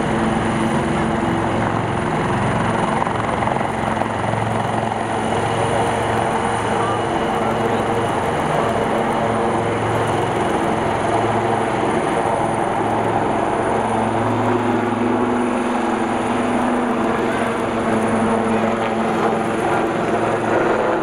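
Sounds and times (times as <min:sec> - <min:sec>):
helicopter rotor thrum: 0:00.0 - 0:21.0
high turbine whine: 0:00.0 - 0:21.0.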